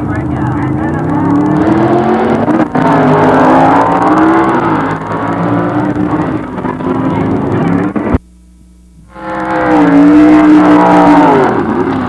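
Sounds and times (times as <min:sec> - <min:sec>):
race car engines accelerating: 0:00.0 - 0:08.2, 0:09.1 - 0:12.0.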